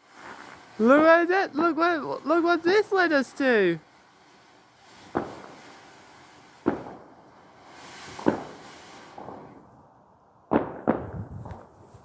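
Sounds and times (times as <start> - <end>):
fireworks bangs with echo: 0.0 - 9.7, 10.4 - 12.0
faint firework crackle: 0.0 - 12.0
firework rushing hiss: 0.0 - 12.0.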